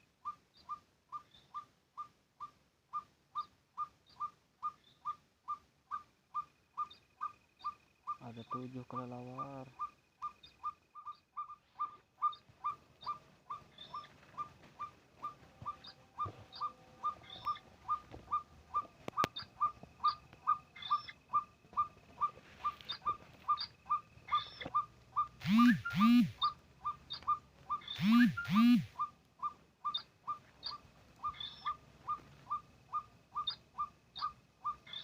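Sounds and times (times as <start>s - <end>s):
loud arching animal calls: 0.2s - 35.0s
short clipped animal calls: 0.2s - 35.0s.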